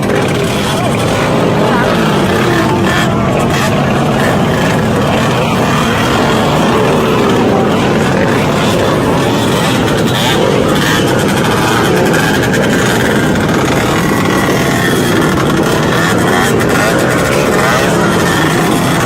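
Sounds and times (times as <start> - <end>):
loud steady rush of noise: 0.0 - 19.0
motorbike engines running: 0.0 - 19.0.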